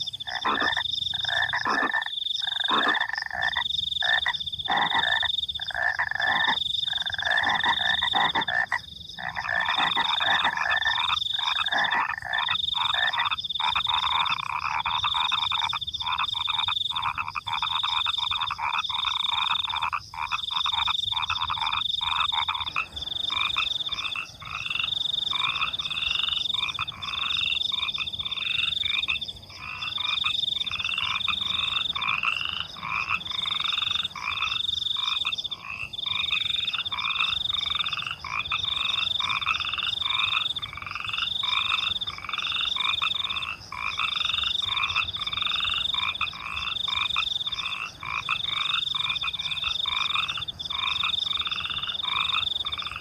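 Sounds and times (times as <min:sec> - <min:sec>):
crickets chirping: 0:00.0 - 0:53.0
frogs croaking: 0:00.0 - 0:53.0.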